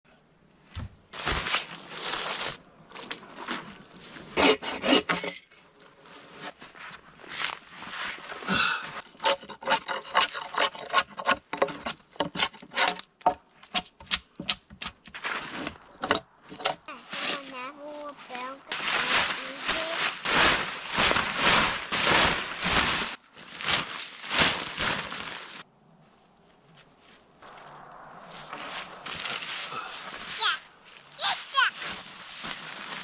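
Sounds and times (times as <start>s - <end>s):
rubbing and scraping strokes: 3.3s - 25.6s, 26.9s - 33.0s.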